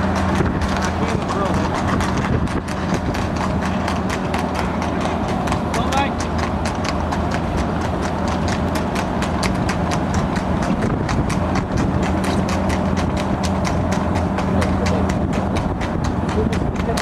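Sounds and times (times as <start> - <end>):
horse hooves trotting on wet tarmac: 0.0 - 17.0
low vehicle hum: 0.0 - 17.0.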